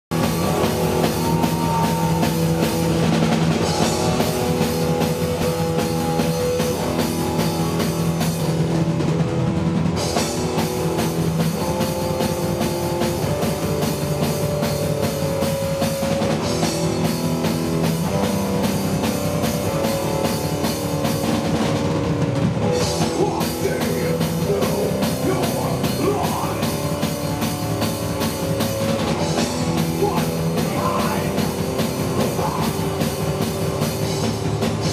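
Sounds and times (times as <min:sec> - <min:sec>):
drum kit: 0:00.1 - 0:34.9
electric guitar melody: 0:00.1 - 0:34.9.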